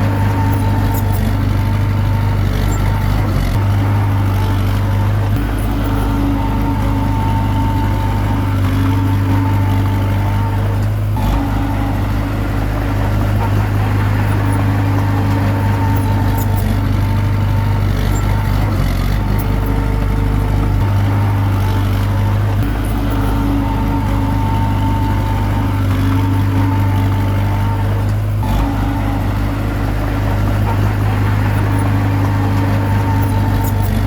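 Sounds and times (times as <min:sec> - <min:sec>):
bulldozer diesel engine running: 0:00.0 - 0:34.0.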